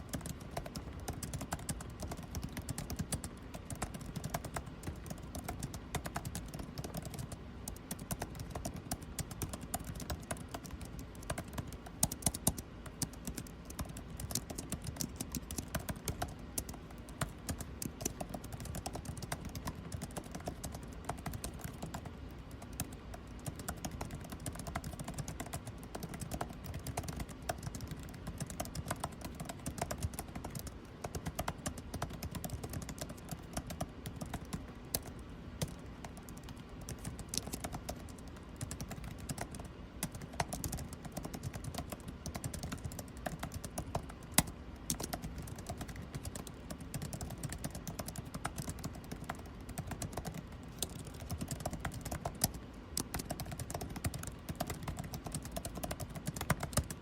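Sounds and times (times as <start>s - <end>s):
air conditioning hum: 0.0s - 57.0s
keyboard typing: 0.0s - 57.0s.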